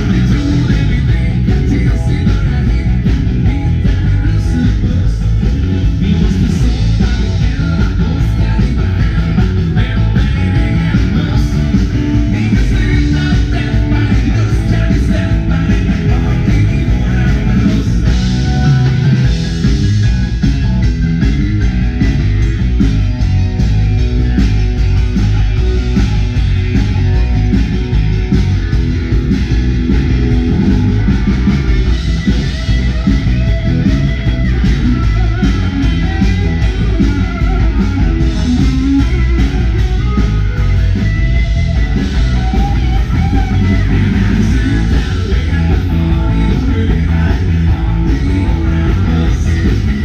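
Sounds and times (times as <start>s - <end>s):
guitar: 0.0s - 50.0s
live dance band playing: 0.0s - 50.0s.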